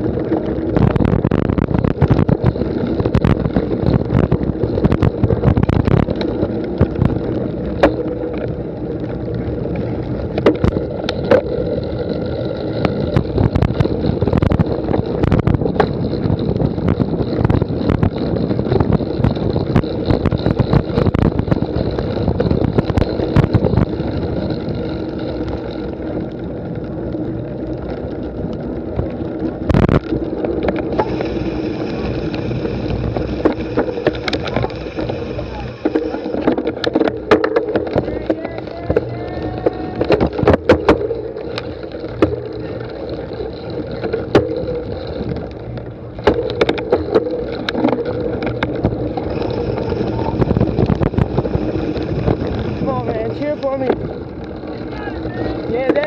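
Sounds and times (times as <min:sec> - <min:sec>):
bike rattling and knocking: 0:00.0 - 0:56.0
wind and rolling noise: 0:00.0 - 0:56.0.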